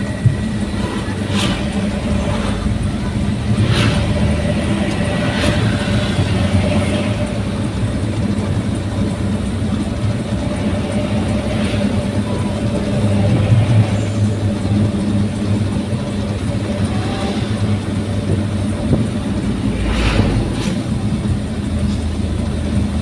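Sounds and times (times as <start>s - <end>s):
pickup engine and exhaust drone: 0.0s - 23.0s.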